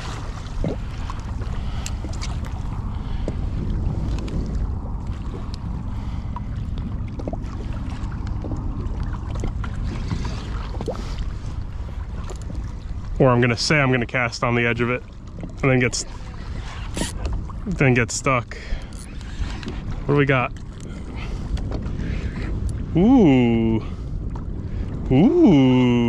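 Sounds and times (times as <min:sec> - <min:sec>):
water lapping against kayak: 0:00.0 - 0:26.0
wind buffeting microphone: 0:00.0 - 0:26.0.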